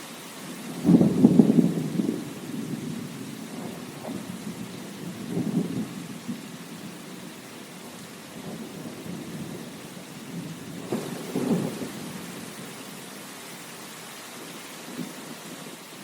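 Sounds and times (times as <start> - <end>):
steady rain: 0.0 - 16.0
low thunder rumbles: 0.6 - 13.2, 14.9 - 15.8.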